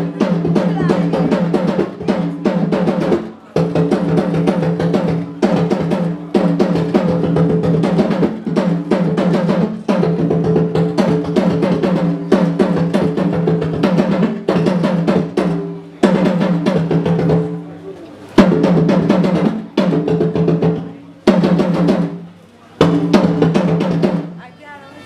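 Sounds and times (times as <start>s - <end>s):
talking drum beaten: 0.0s - 24.6s.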